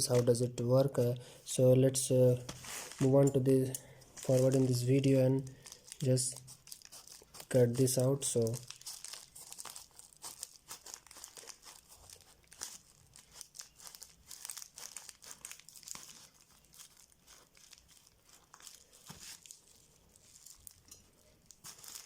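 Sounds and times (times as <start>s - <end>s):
package packaging tearing: 4.1s - 22.0s.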